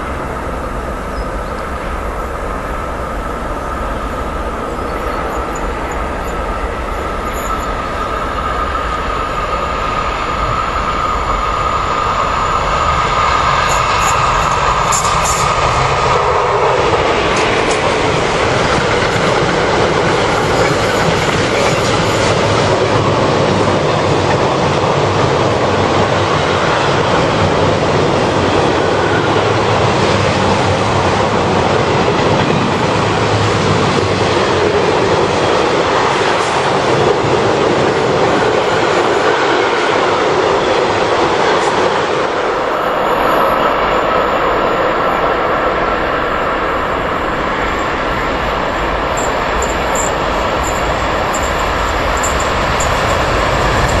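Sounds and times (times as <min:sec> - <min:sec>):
electric train high whine: 0:00.0 - 0:54.0
train wheels rumbling on rail: 0:00.0 - 0:54.0.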